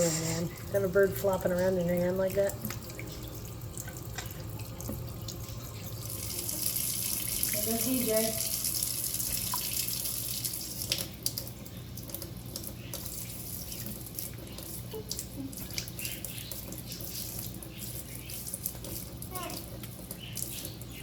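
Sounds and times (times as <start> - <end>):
tap water running: 0.0 - 21.0
water splashes and drips: 0.0 - 21.0.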